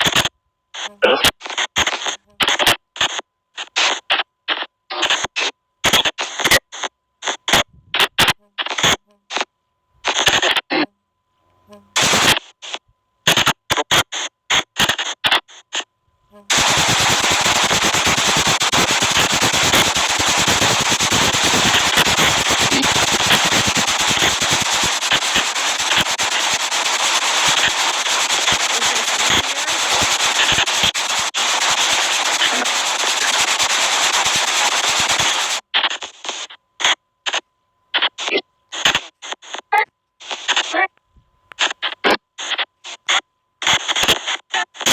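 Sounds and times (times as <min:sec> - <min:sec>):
choppy static bursts: 0:00.0 - 0:10.8, 0:11.9 - 0:15.9, 0:16.5 - 0:44.9
white noise hiss with crackle: 0:00.0 - 0:44.9.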